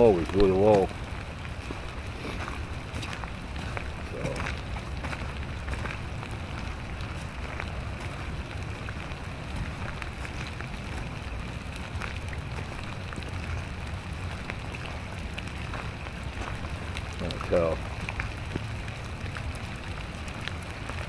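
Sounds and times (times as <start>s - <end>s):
rain falling on water: 0.0s - 21.0s.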